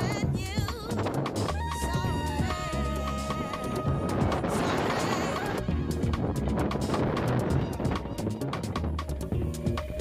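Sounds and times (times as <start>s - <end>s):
background music with drums: 0.0s - 10.0s.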